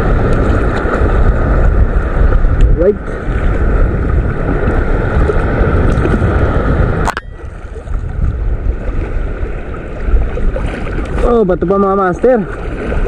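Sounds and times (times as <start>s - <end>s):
shallow water washing: 0.0s - 13.0s
wind buffeting microphone: 0.0s - 13.0s.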